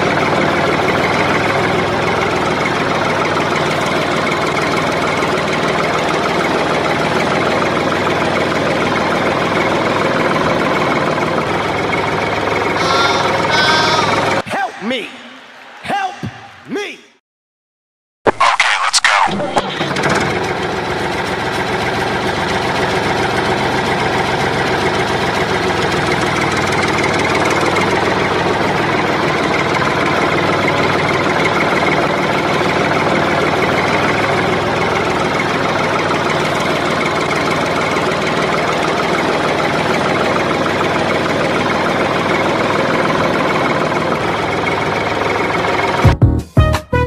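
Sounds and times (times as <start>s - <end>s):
tractor engine idling: 0.0s - 16.7s, 18.6s - 46.2s.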